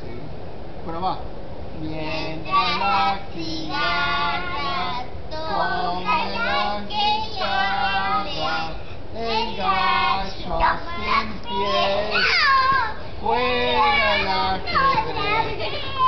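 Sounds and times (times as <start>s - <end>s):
child singing: 2.0s - 16.0s.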